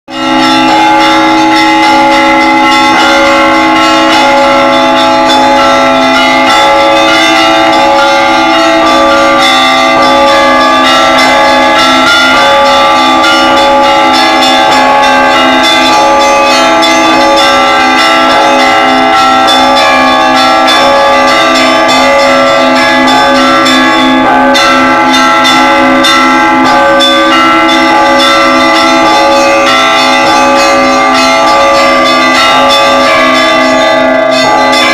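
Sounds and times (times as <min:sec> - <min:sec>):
church bells pealing: 0:00.1 - 0:34.9.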